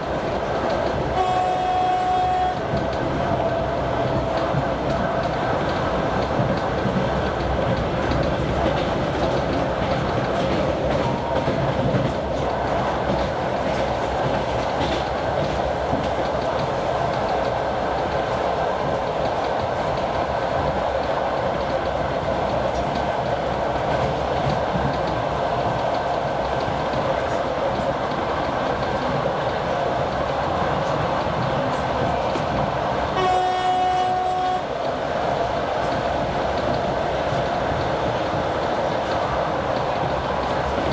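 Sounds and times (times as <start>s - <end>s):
diesel locomotive engine: 0.0s - 40.9s
rail joint clicks: 0.0s - 40.9s
train wheels rumbling on track: 0.0s - 40.9s.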